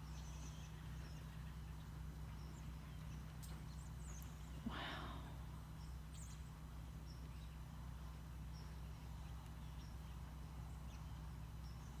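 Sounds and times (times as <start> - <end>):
flock of birds chirping: 0.0 - 12.0
steady low hum: 0.0 - 12.0.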